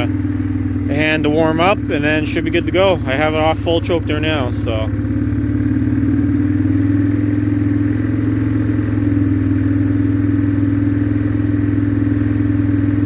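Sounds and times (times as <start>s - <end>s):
engine idling fast: 0.0s - 13.0s.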